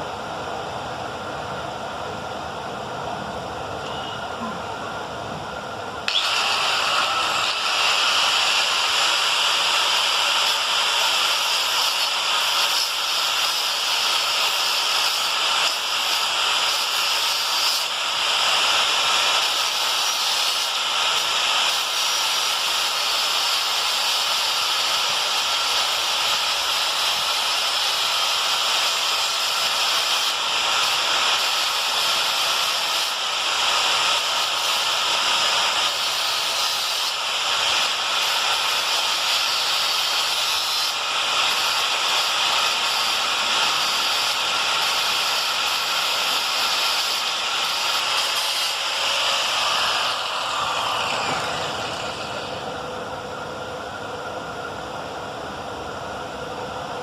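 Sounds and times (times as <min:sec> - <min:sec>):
grinder on steel blade: 0:06.1 - 0:52.6.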